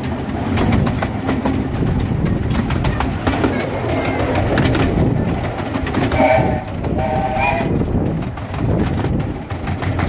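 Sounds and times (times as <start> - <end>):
train rumbling on track: 0.0 - 10.0
locomotive toots: 0.4 - 10.0.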